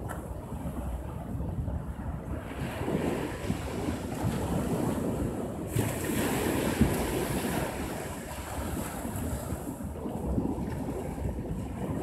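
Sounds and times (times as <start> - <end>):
wind on microphone: 0.0 - 12.0
small waves washing up beach: 0.5 - 12.0.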